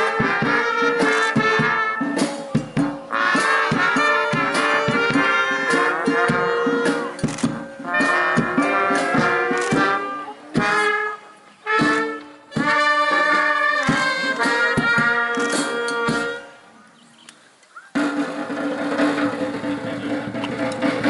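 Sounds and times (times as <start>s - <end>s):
drum beats: 0.0s - 16.5s, 17.8s - 21.0s
brass band playing: 0.0s - 16.7s, 18.0s - 21.0s.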